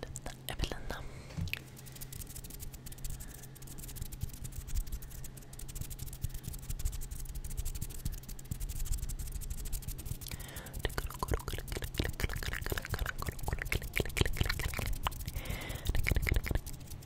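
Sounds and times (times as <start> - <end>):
fingers fluttering and rubbing: 1.5 - 17.0
small clicks and scratches: 1.5 - 17.0.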